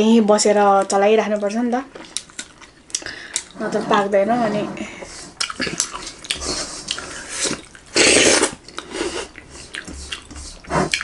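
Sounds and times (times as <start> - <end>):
fingers squishing thick porridge: 1.9 - 11.0.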